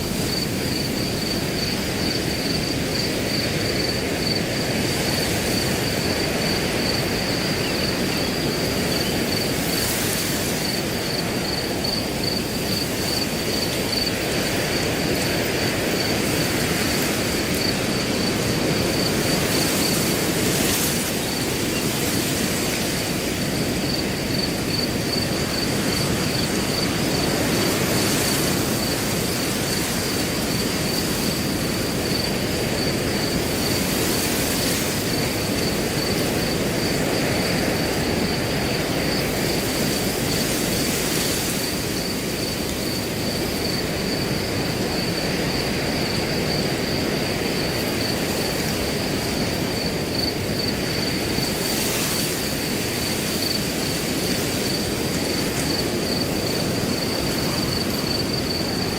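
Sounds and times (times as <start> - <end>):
cricket chirping: 0.0 - 58.9
wind blowing through grass: 0.0 - 58.9.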